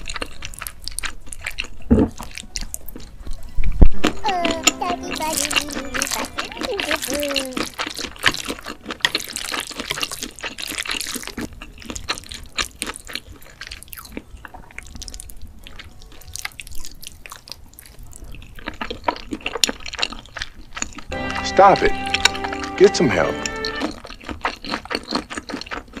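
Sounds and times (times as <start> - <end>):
wet chewing and slurping: 0.0 - 21.2, 23.5 - 26.0.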